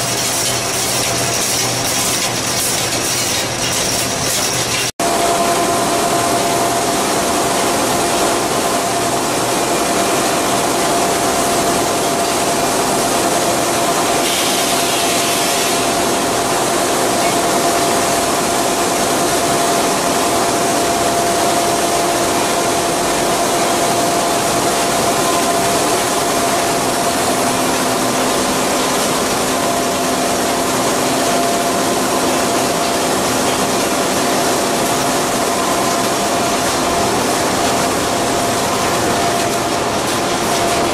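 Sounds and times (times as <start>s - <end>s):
factory machinery running: 0.0s - 40.9s.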